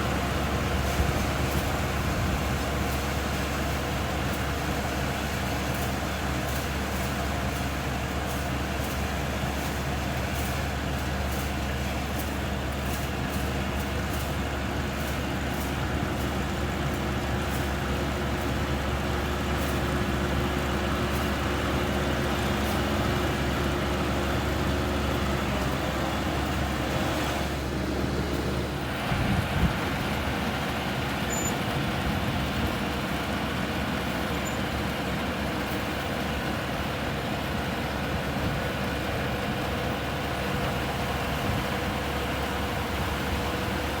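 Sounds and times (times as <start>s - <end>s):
combine harvester machinery drone: 0.0s - 44.0s.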